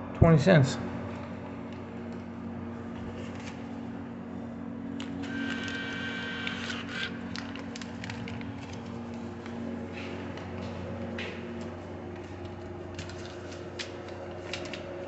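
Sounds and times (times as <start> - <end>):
vending machine hum: 0.0 - 15.0.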